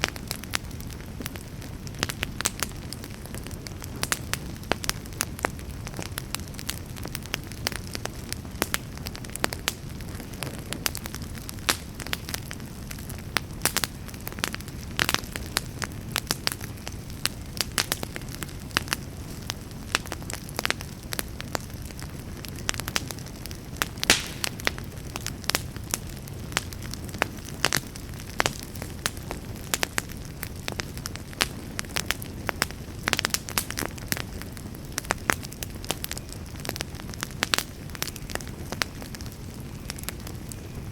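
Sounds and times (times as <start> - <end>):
campfire crackles and pops: 0.0 - 40.9
low rumble of flames: 0.0 - 40.9.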